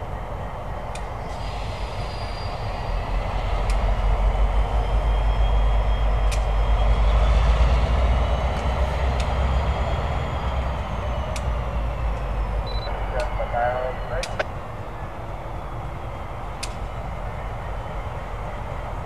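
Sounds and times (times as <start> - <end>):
locomotive diesel engines rumbling: 0.0 - 19.0.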